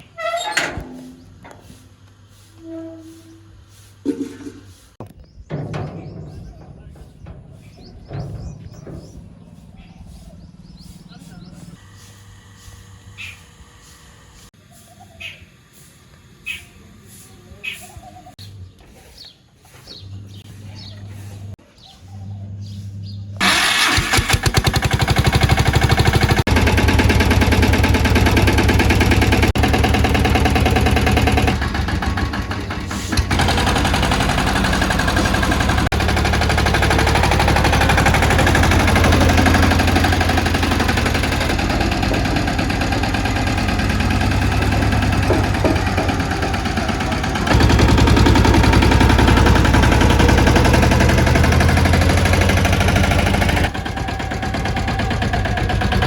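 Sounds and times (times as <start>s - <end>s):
tractor engine chugging: 0.0s - 13.3s, 23.4s - 56.0s.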